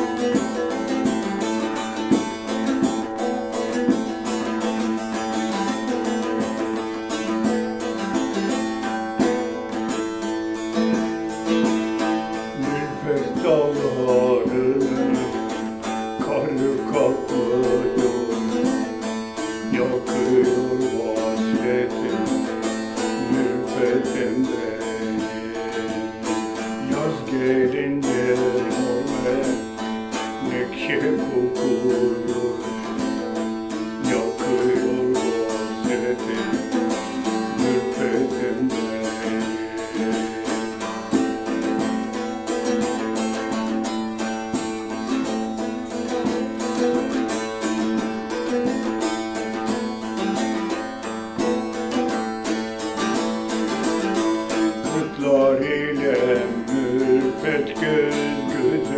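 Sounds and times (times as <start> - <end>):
long-necked lute strummed rapidly: 0.0 - 58.9.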